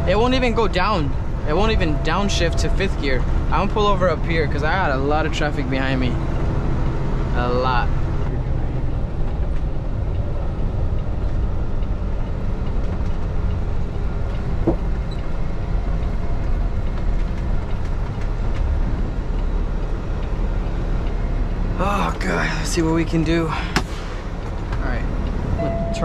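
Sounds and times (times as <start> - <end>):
diesel truck engine rumble: 0.0 - 26.0.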